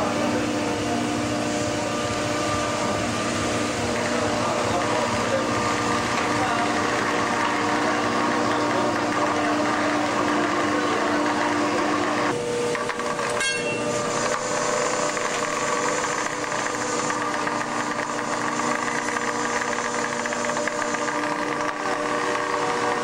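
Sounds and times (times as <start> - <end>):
deck machinery humming: 0.0 - 23.0.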